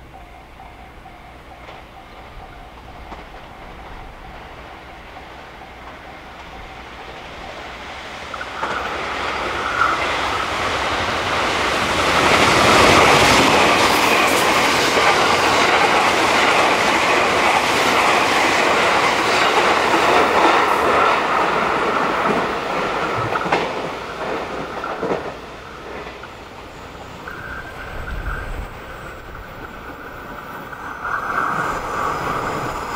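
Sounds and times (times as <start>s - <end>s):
train wheels clacking: 0.0s - 32.9s.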